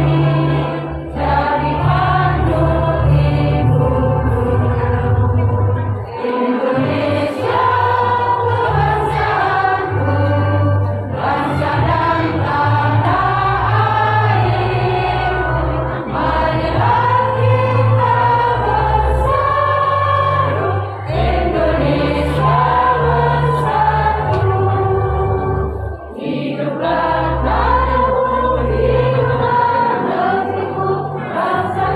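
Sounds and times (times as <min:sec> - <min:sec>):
women's choir singing in unison: 0:00.0 - 0:31.9.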